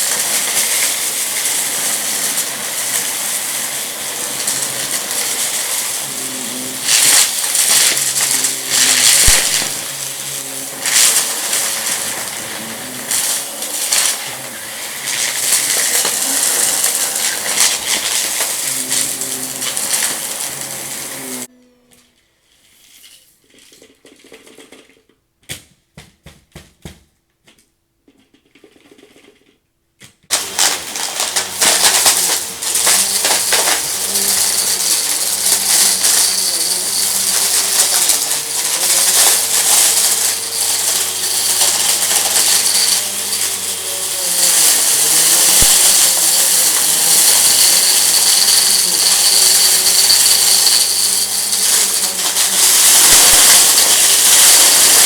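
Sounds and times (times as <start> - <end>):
debris rattling being sucked up: 0.0 - 21.5, 30.3 - 55.0
vacuum cleaner running: 0.0 - 21.5, 30.3 - 55.0.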